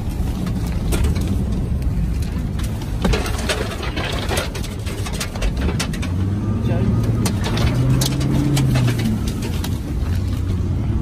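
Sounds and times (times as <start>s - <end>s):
fire truck engine rumble: 0.0s - 11.0s
sharp clicks and knocks: 0.3s - 6.4s, 7.0s - 10.6s.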